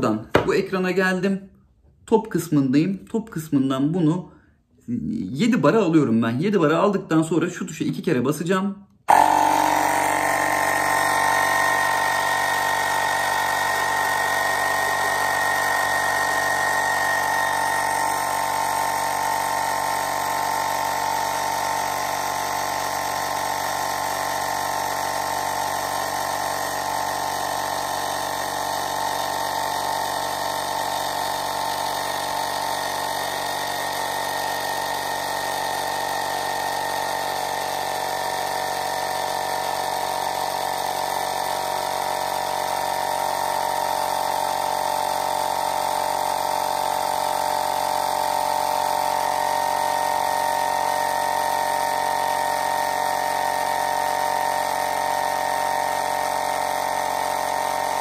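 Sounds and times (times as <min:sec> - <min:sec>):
air compressor running: 0:09.1 - 0:58.0.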